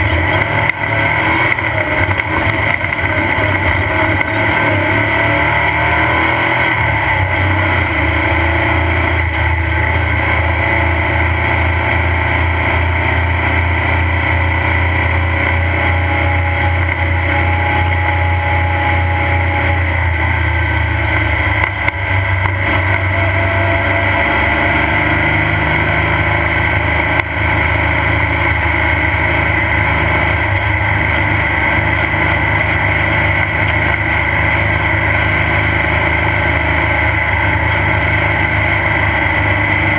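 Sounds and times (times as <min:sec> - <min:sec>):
race vehicle engine running: 0:00.0 - 0:39.9.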